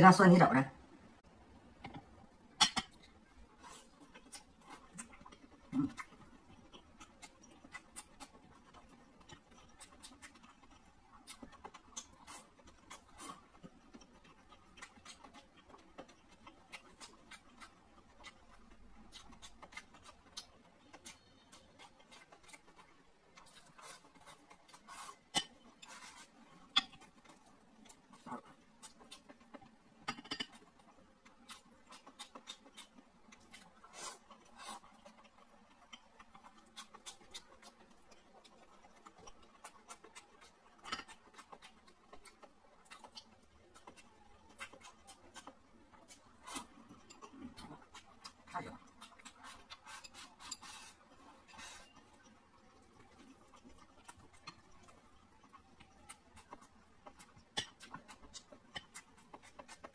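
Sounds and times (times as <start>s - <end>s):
wet chewing and mouth smacking: 1.8s - 59.9s.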